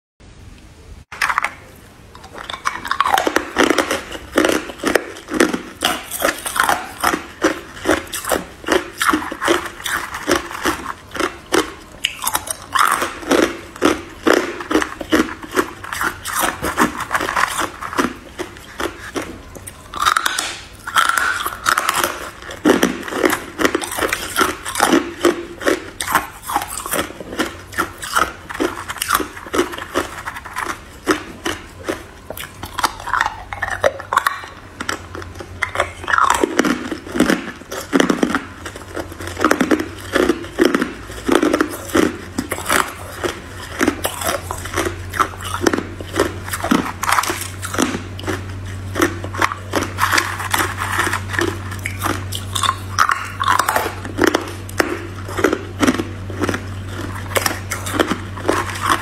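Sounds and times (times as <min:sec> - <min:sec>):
ice crunching between teeth: 0:01.2 - 0:59.0.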